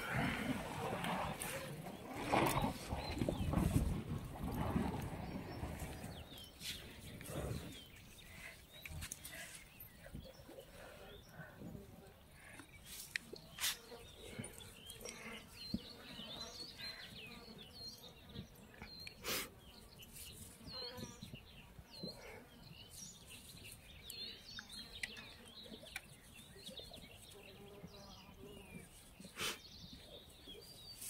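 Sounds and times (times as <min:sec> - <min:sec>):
faint outdoor hush: 0:00.0 - 0:31.0
small birds chirping: 0:00.0 - 0:31.0.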